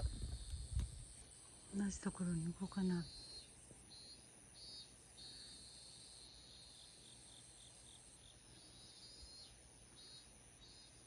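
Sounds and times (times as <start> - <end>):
crickets chirping: 0.0 - 11.0
high insect buzz: 0.0 - 11.0.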